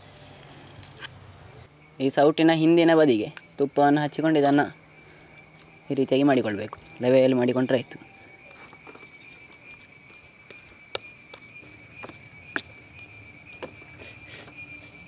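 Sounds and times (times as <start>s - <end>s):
steady high-pitched tone: 0.0s - 15.0s.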